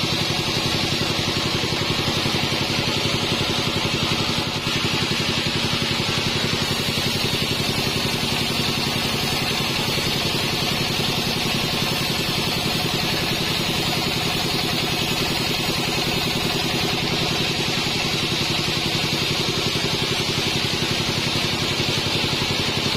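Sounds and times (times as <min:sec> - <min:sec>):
sawmill machinery drone: 0:00.0 - 0:22.9.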